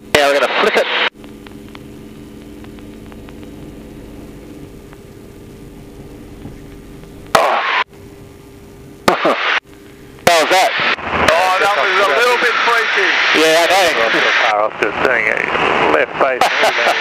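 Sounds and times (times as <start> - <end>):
propeller engine droning: 0.0 - 17.0.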